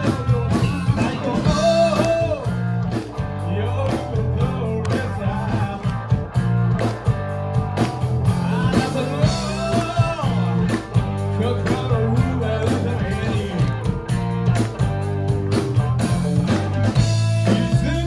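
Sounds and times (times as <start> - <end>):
bass guitar: 0.0 - 18.0
drum beats: 0.0 - 18.0
electric guitar: 0.0 - 18.0.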